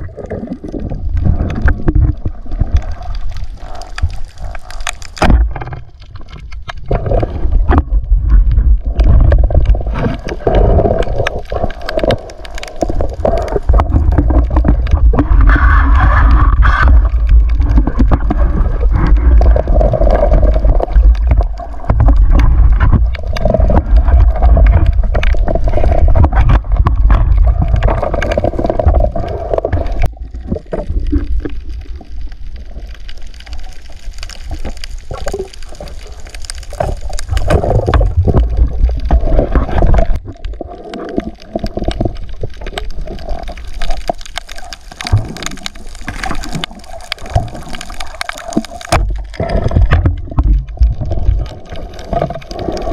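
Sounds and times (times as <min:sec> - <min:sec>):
water gurgling underwater: 0:00.0 - 0:52.9.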